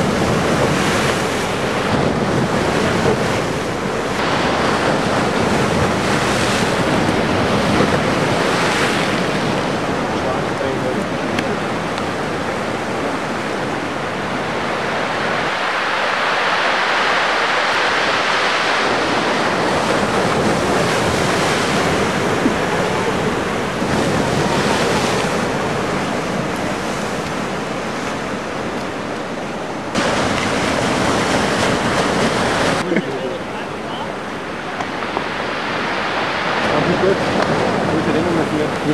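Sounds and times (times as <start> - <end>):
ocean surf breaking: 0.0 - 38.9
wind on microphone: 0.0 - 38.9.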